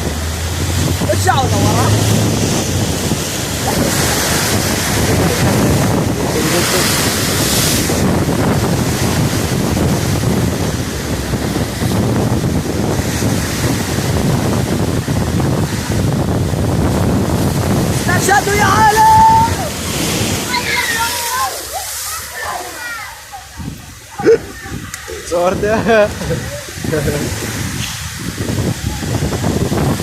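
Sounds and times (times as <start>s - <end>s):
sea surf washing in: 0.0s - 30.0s
wind buffeting microphone: 0.0s - 30.0s.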